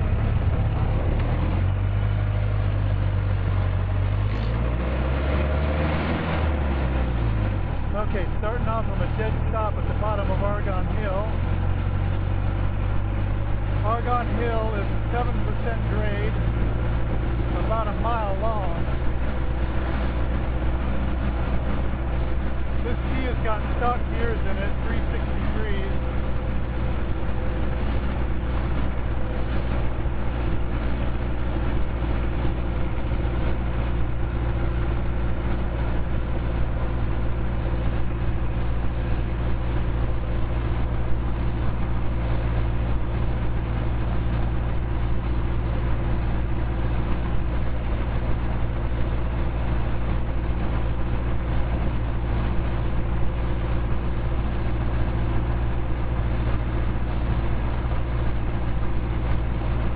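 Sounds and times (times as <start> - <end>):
car engine running under load: 0.0 - 59.9.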